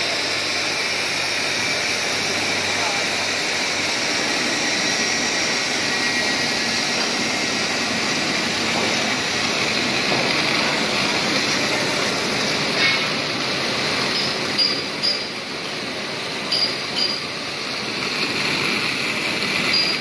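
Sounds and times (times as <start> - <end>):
rushing water hiss: 0.0 - 20.0.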